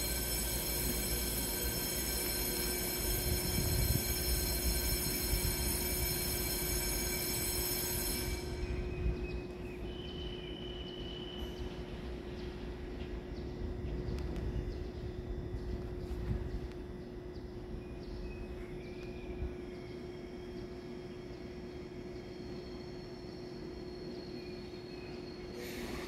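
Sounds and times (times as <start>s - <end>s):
high-pitched electrical whine: 0.0s - 26.0s
low electrical hum: 0.0s - 26.0s.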